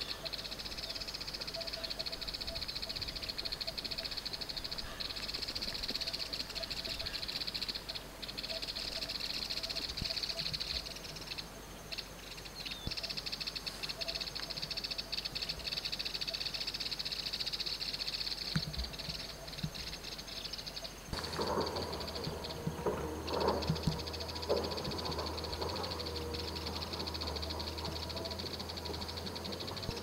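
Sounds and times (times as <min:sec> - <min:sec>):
insects buzzing in grass: 0:00.0 - 0:30.0.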